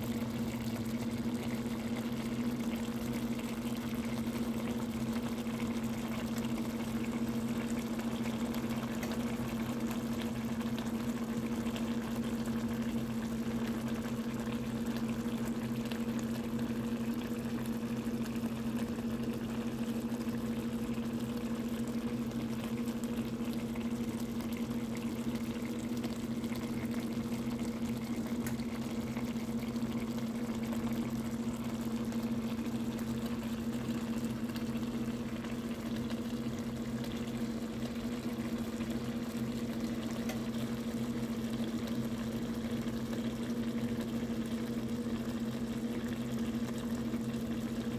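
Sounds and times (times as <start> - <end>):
broth bubbling in a skillet: 0.0 - 47.9.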